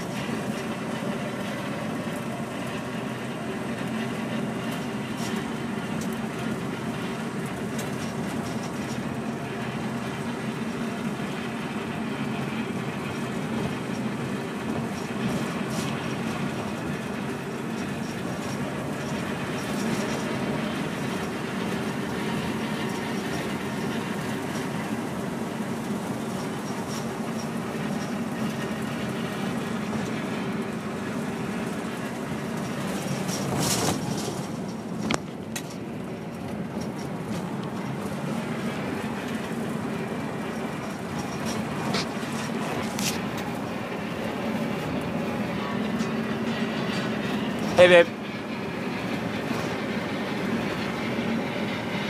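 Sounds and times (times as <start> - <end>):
bus body rattling: 0.0 - 52.0
bus diesel engine running: 0.0 - 52.0
road and wind noise: 0.0 - 52.0.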